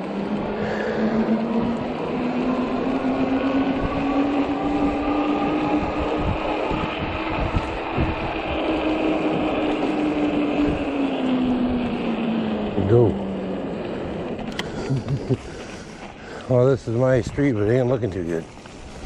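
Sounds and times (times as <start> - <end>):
electric motor whining: 0.0 - 16.2
tires rumbling over snowy road: 0.0 - 19.0.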